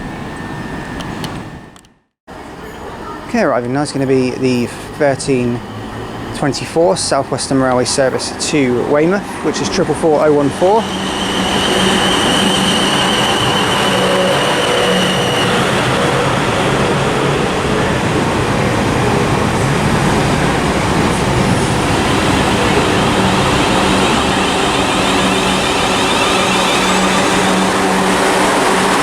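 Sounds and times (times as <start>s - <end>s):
train wheel and running noise: 0.0s - 29.0s
high steady tone: 2.8s - 29.0s.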